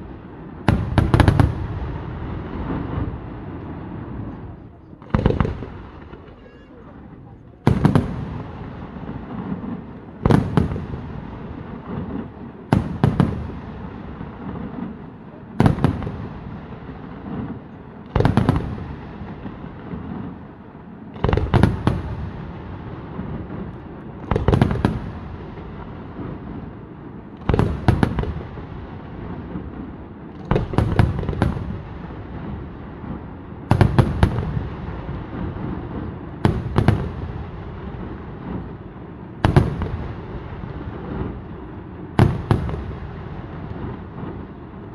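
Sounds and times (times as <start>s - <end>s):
heavy firework bangs: 0.0s - 44.9s
smaller firework bursts: 0.0s - 44.9s.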